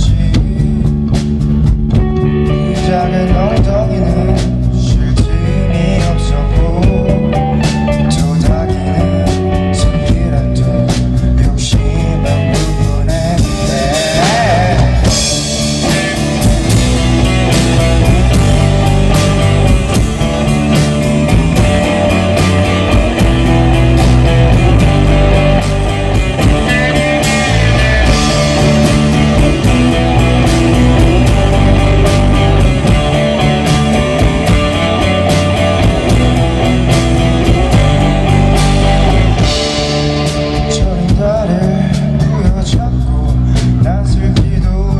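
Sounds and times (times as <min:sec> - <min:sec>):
bass guitar: 0:00.0 - 0:44.9
drum kit: 0:00.0 - 0:44.9
electric guitars: 0:00.0 - 0:44.9.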